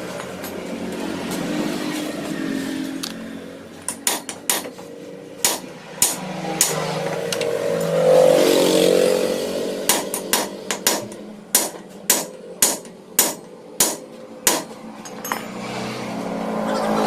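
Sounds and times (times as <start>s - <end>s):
vehicle engine passing: 0.0s - 3.9s, 4.7s - 12.6s, 13.6s - 17.0s.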